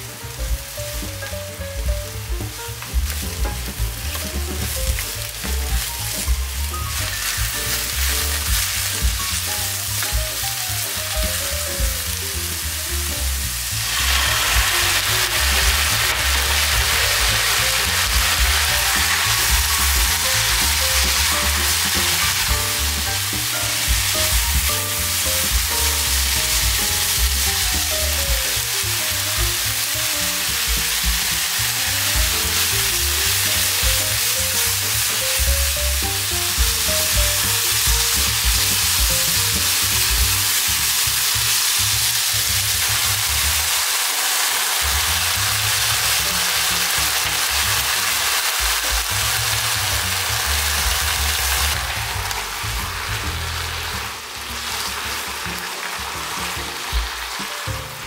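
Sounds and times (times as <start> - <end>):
background music: 0.0 - 44.0, 44.6 - 58.0
mushrooms sizzling in oil: 0.0 - 58.0
spatula turning food in pan: 0.2 - 58.0.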